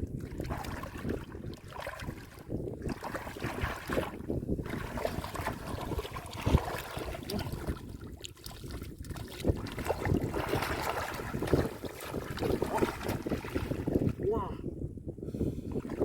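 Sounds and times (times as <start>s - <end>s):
muddy water sloshing and splashing: 0.0s - 14.4s, 15.7s - 16.0s
wind buffeting microphone: 0.0s - 16.0s.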